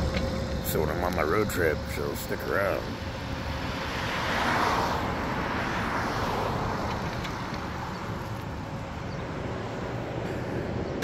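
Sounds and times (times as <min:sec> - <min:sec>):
low traffic rumble: 0:00.0 - 0:11.0
vehicle passing: 0:00.0 - 0:11.0.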